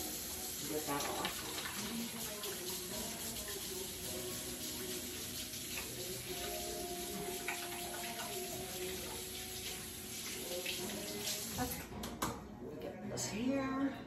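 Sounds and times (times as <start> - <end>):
hands washing under water: 0.0 - 11.8
faucet water running into sink: 0.0 - 12.2.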